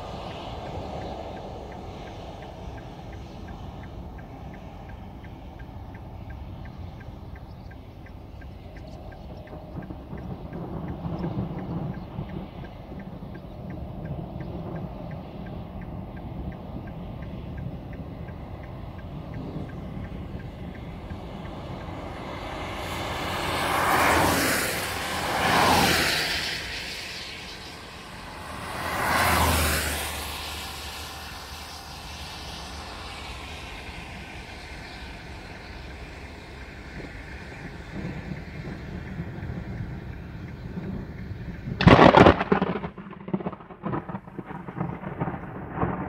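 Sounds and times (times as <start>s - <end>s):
car road noise on wet asphalt: 0.0s - 46.0s
vehicles swishing past on wet road: 0.0s - 46.0s.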